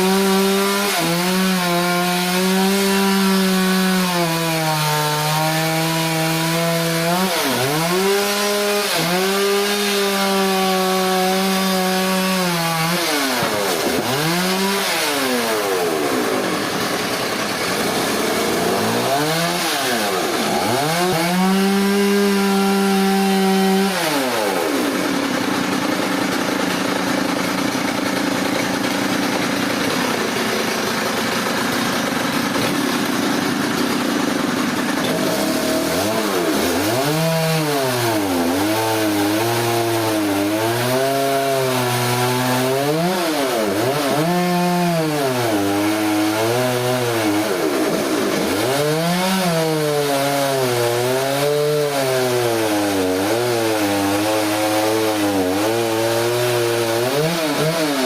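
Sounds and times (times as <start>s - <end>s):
chainsaw cutting through log: 0.0s - 58.0s.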